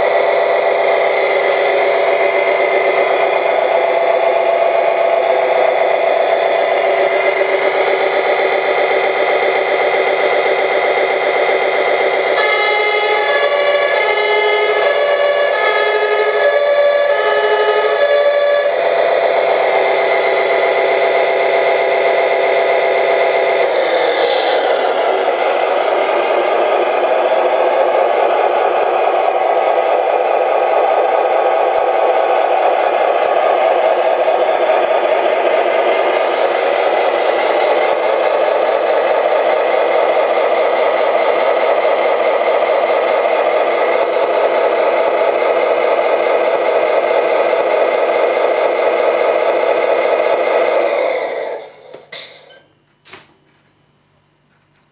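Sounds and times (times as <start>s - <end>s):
steady synth chord: 0.0s - 47.6s
simulated truck engine idling: 0.0s - 51.6s.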